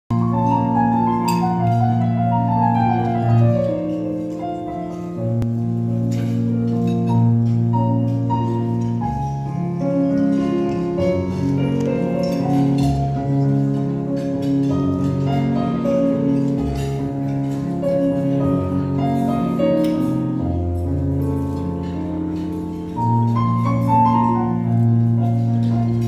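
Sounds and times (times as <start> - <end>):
electric keyboard notes: 0.1 - 26.0.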